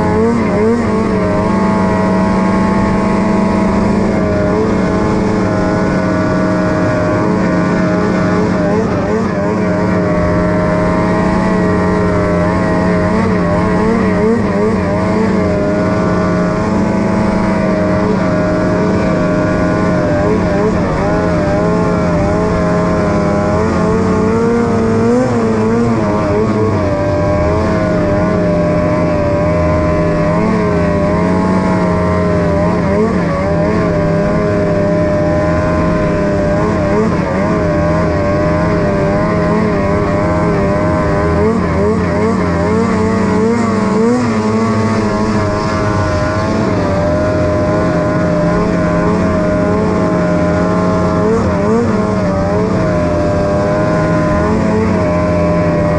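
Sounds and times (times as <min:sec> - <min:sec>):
snowmobile engine: 0:00.0 - 0:55.9.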